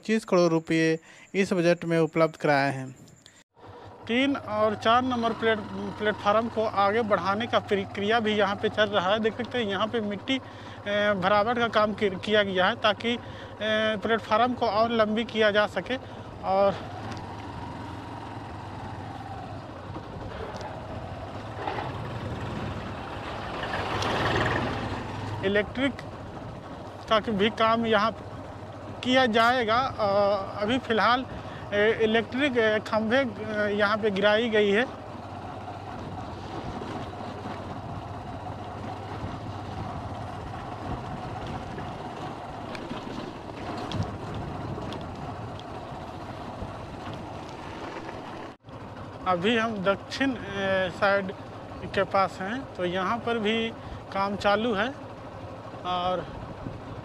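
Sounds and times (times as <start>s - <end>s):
road and wind noise: 2.3s - 57.0s
motor scooter engine: 3.5s - 57.0s
tractor engine approaching: 3.5s - 57.0s.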